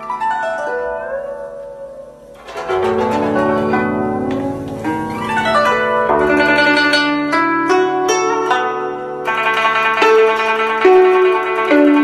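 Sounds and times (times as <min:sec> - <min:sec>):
zither plucked notes: 0:00.0 - 0:12.0.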